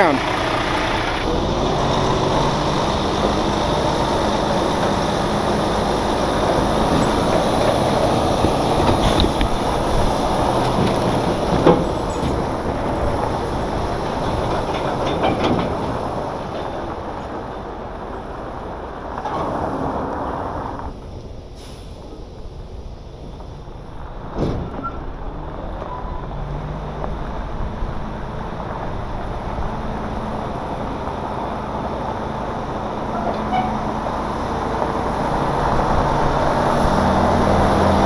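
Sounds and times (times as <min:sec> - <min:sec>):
heavy truck running: 0:00.0 - 0:38.0.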